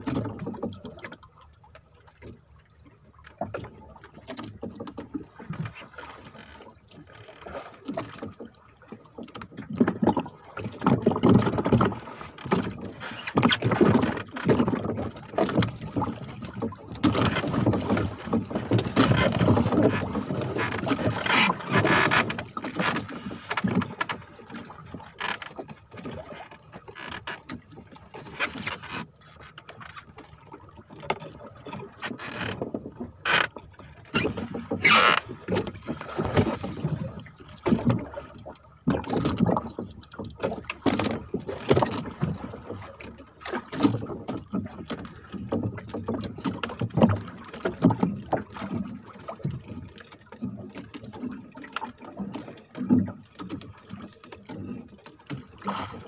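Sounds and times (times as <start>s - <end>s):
water splashing: 0.0s - 56.0s.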